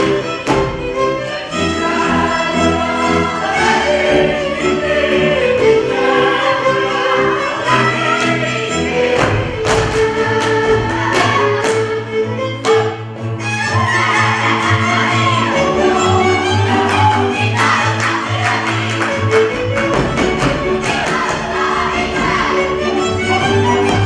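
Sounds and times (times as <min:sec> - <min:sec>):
folk string band playing: 0:00.0 - 0:24.0
voices singing along: 0:01.2 - 0:12.2, 0:13.7 - 0:19.3, 0:20.3 - 0:23.9.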